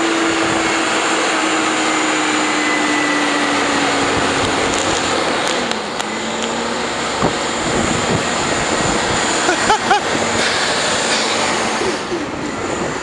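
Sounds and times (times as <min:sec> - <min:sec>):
bus diesel engine whining: 0:00.0 - 0:13.0.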